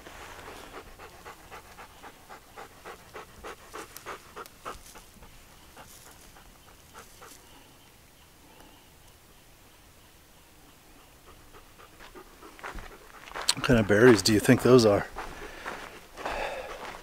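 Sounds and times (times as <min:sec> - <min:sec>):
dog panting: 0:00.1 - 0:07.9, 0:10.7 - 0:17.0.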